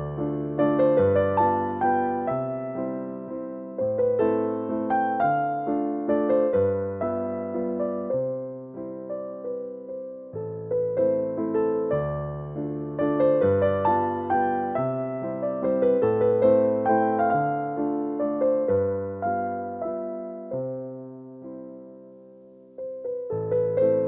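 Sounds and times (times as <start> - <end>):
slow electric piano music: 0.0 - 24.0.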